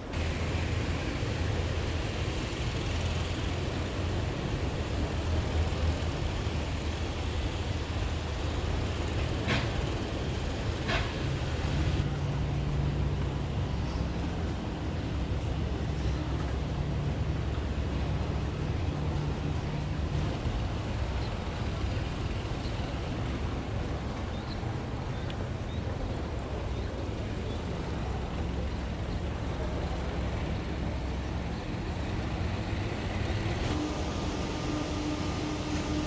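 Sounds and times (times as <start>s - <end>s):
steady mechanical hum: 0.0s - 36.0s
vehicle rumbling in motion: 0.0s - 36.0s.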